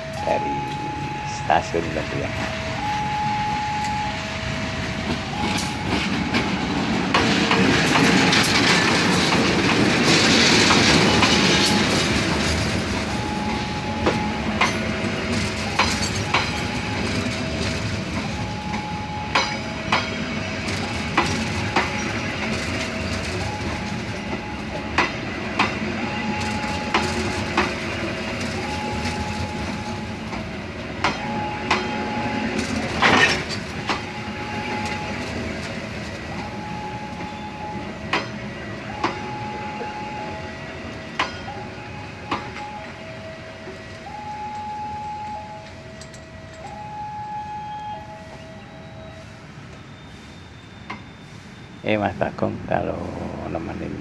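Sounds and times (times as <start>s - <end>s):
diesel locomotive passing: 0.0s - 54.0s
wheels clacking over rail joints: 2.0s - 47.5s.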